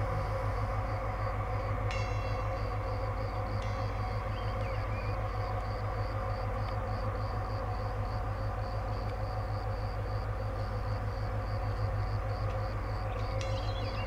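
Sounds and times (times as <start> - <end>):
locomotive cooling fans droning: 0.0 - 14.0.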